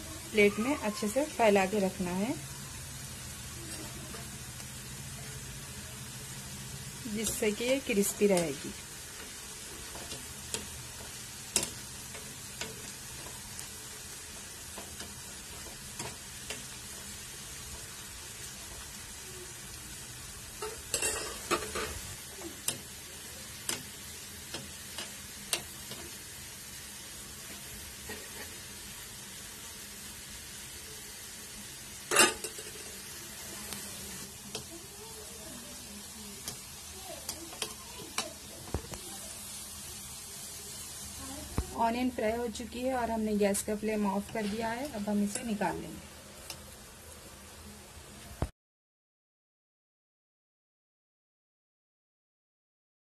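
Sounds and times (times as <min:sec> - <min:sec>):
onions sizzling in hot oil: 0:00.0 - 0:48.5.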